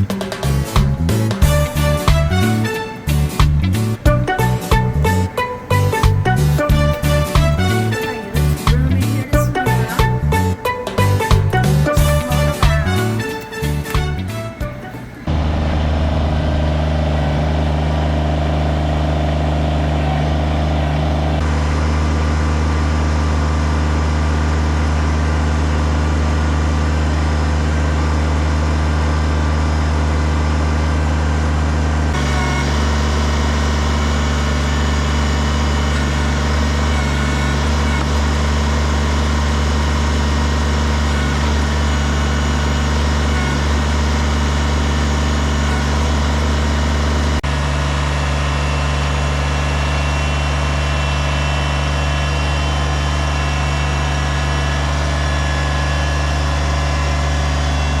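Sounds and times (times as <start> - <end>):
engine running with low hum: 0.0 - 58.0.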